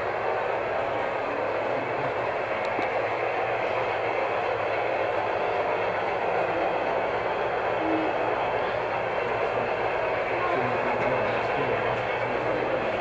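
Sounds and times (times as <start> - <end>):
model train rolling on track: 0.0 - 13.0.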